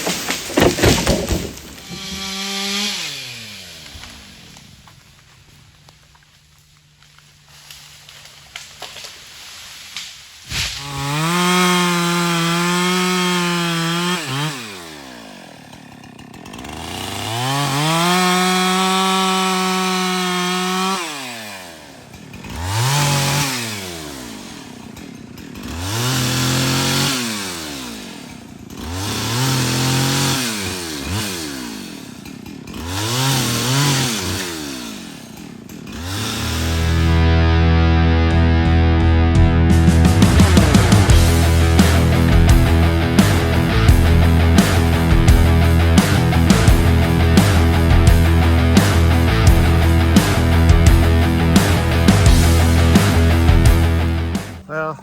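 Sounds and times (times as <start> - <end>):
chainsaw revving: 0.0 - 4.8, 9.9 - 54.7.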